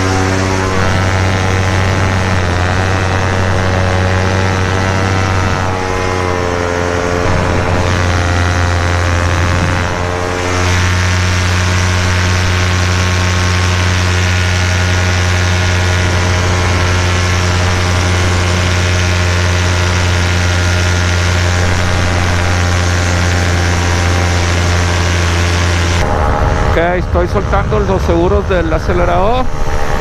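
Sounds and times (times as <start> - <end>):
paramotor engine and propeller drone: 0.0 - 30.0.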